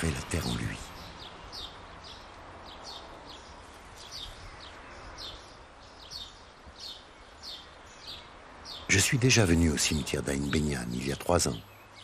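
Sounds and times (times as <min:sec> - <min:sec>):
bird chirping: 0:00.0 - 0:12.0
faint outdoor hiss: 0:00.0 - 0:12.0.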